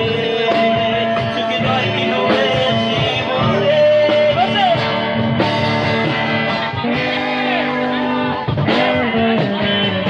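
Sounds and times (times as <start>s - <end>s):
live band with guitar: 0.0s - 10.0s.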